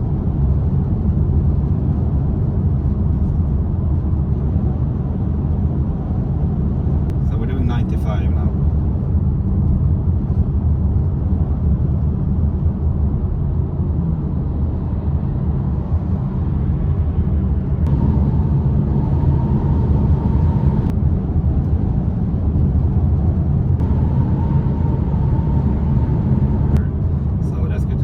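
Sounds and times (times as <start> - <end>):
road rumble: 0.0 - 28.0
wind noise in car: 0.0 - 28.0.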